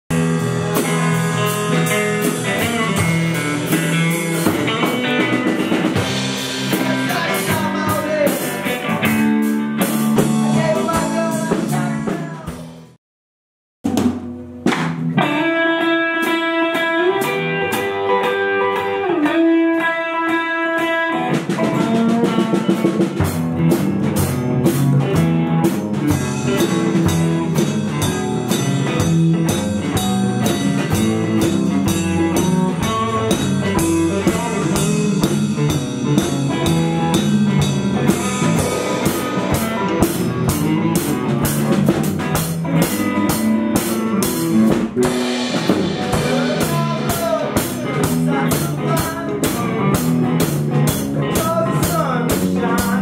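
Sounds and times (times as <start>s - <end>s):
guitar and drum jam: 0.1s - 13.0s, 13.8s - 53.0s.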